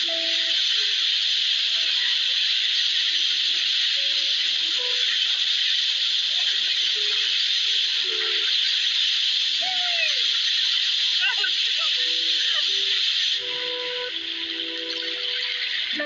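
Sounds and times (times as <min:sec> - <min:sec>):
faint music: 0:00.0 - 0:16.0
water rushing along boat bow: 0:00.0 - 0:16.0.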